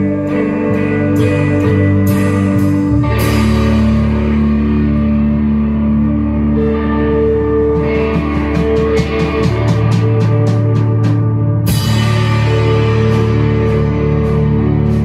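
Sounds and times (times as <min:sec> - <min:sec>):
rock band playing ringing chords: 0:00.0 - 0:15.0.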